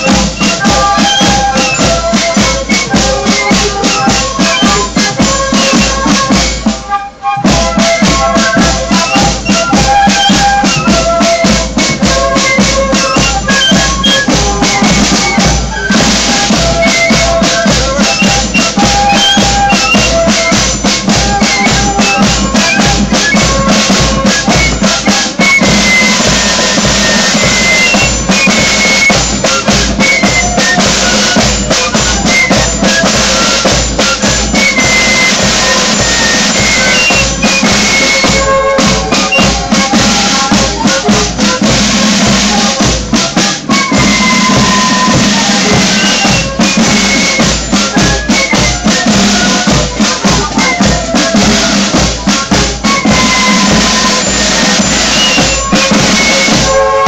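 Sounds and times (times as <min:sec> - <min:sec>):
flutes playing a march tune: 0:00.0 - 0:57.0
snare drums: 0:00.0 - 0:57.0.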